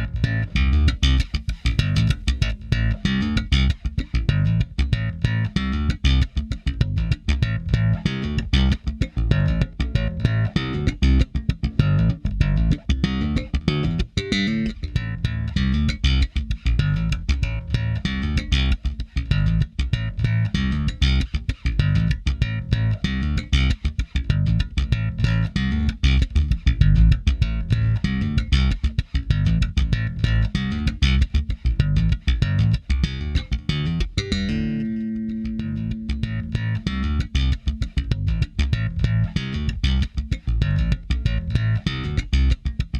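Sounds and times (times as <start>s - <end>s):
electric bass guitar riff: 0.0s - 42.9s.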